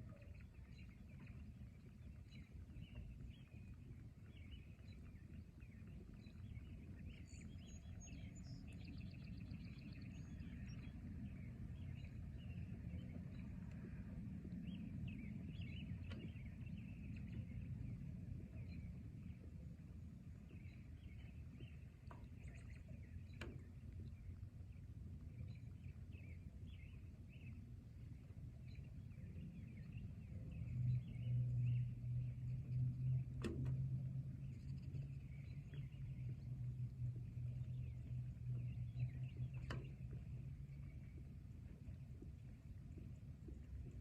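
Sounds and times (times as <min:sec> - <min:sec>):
steady low hum: 0:00.0 - 0:44.0
steady low rumble: 0:00.0 - 0:44.0.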